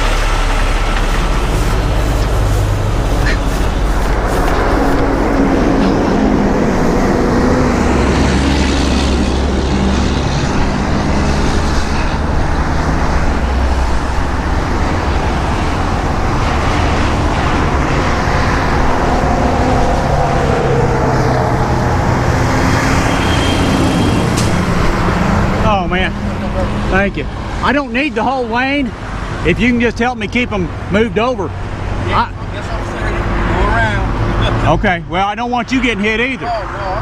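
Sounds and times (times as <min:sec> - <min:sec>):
highway traffic rushing past: 0:00.0 - 0:37.0.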